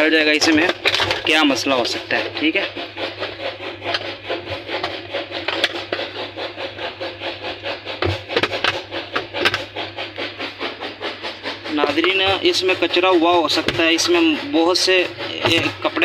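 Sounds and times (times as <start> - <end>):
plastic pulsator rubbing clicks: 0.0 - 16.0.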